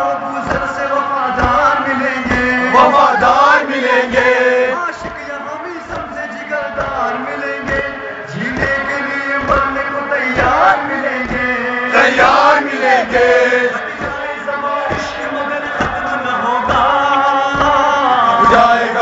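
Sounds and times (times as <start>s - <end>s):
group chanting in unison: 0.0s - 19.0s
rhythmic thumps: 0.0s - 19.0s.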